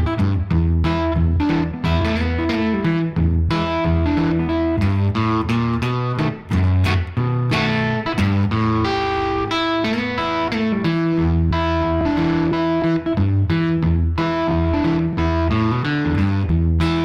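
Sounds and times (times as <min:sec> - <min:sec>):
guitar-led background music: 0:00.0 - 0:17.0.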